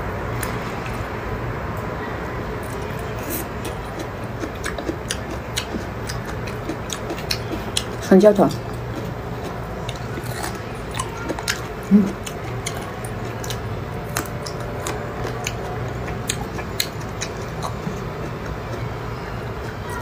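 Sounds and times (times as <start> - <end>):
steady low hum: 0.0 - 20.0
wet chewing mouth clicks: 2.6 - 18.8.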